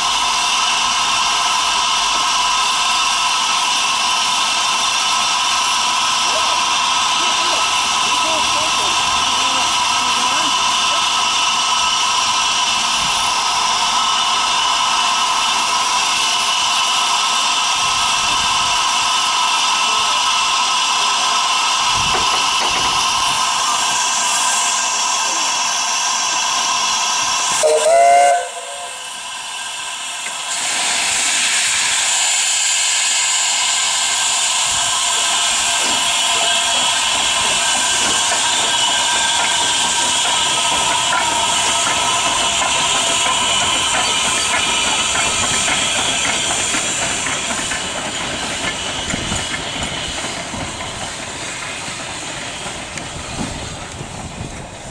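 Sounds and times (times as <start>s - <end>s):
loud steam burst: 0.0s - 54.9s
steam locomotive hissing: 0.0s - 54.9s.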